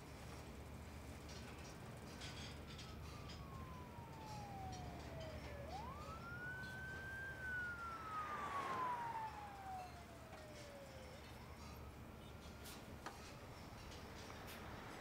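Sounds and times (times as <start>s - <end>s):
city traffic rumble: 0.1s - 15.0s
emergency vehicle siren wailing: 1.3s - 15.0s.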